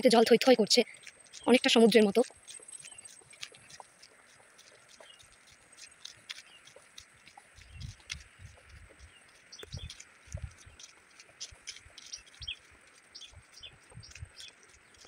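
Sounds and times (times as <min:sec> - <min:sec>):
footsteps on sandy dirt path: 0:00.0 - 0:15.0
small birds chirping: 0:00.0 - 0:15.0.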